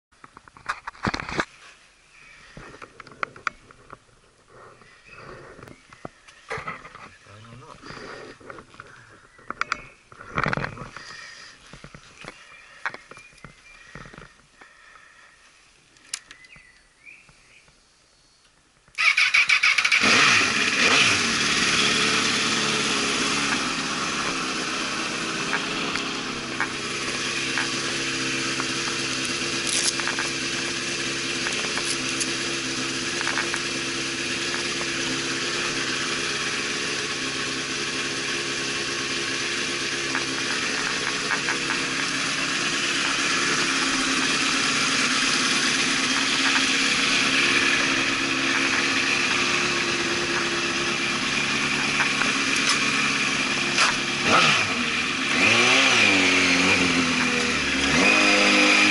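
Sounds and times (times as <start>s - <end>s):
motorcycle engine starting and idling: 2.4s - 15.3s, 18.9s - 58.9s.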